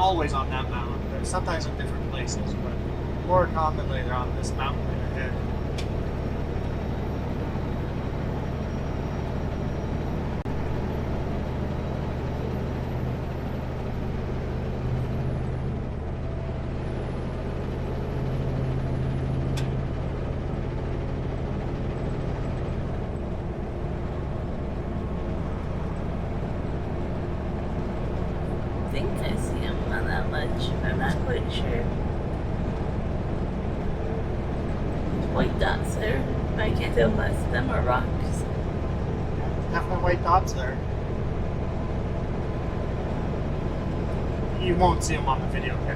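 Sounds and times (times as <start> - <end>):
road noise: 0.0 - 45.9
truck diesel engine cruising: 0.0 - 45.9.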